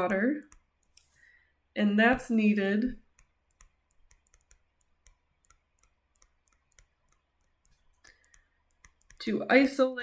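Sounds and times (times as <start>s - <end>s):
stylus clicking on tablet screen: 0.0s - 1.4s, 2.0s - 9.6s.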